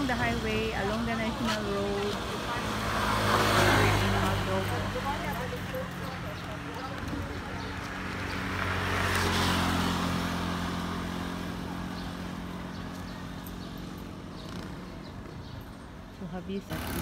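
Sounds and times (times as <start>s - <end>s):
steady low traffic hum: 0.0s - 17.0s
vehicle passing: 0.0s - 17.0s.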